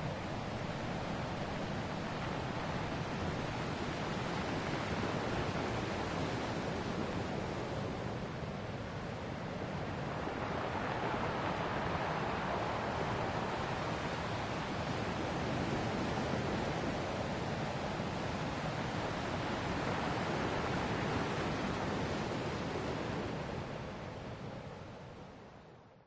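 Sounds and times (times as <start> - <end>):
ocean waves washing on shore: 0.0 - 25.7.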